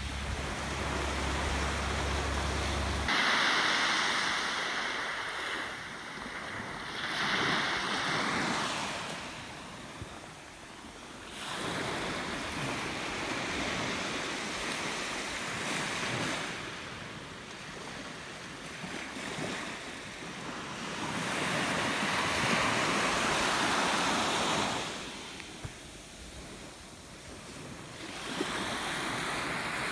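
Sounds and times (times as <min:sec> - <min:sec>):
surf breaking on a beach: 0:00.0 - 0:29.9.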